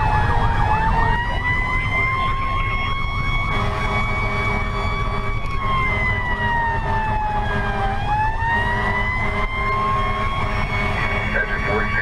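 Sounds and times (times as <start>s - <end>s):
engine and tyres rumbling: 0.0s - 12.0s
fire truck siren: 0.0s - 12.0s.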